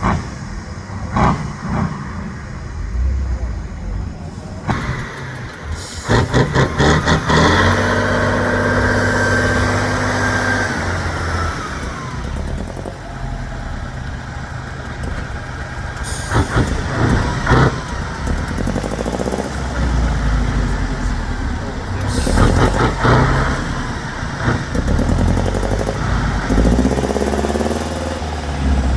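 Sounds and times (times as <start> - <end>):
truck engine revving: 0.0 - 28.9.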